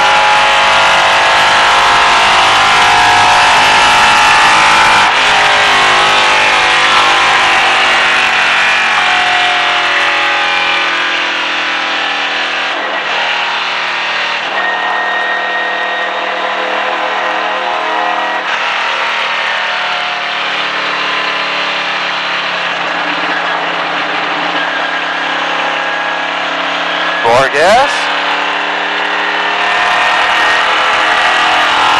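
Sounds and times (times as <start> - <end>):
race car engine at speed: 0.0 - 31.9.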